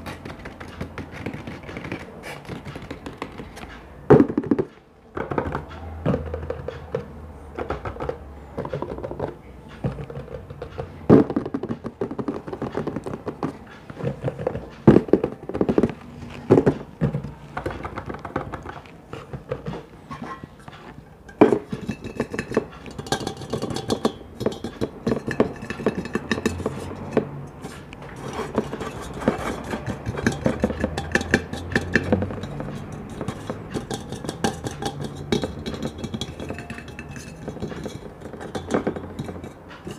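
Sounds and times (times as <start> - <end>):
faint background music: 0.0 - 39.9
tapping and handling objects: 0.0 - 39.9.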